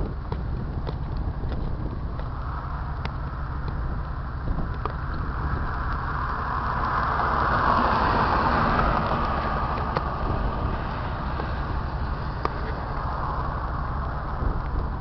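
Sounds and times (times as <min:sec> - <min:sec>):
steady low traffic rumble: 0:00.0 - 0:15.0
vehicle passing: 0:01.9 - 0:15.0.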